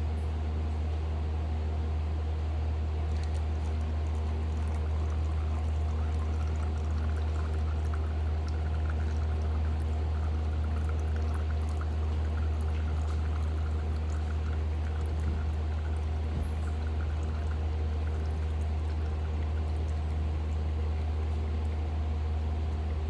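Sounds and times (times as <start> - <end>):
steady low hum: 0.0 - 23.0
oil pouring and dripping into pan: 3.1 - 23.0.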